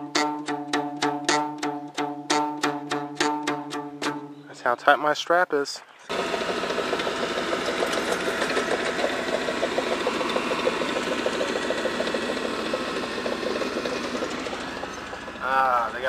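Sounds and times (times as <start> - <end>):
truck engine buzz and rattle: 0.0 - 4.3, 6.0 - 16.0
road noise: 2.3 - 16.0.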